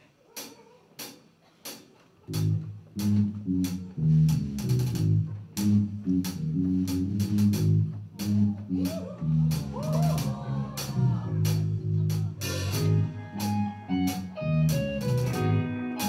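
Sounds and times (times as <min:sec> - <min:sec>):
rock band playing: 0:02.3 - 0:16.0.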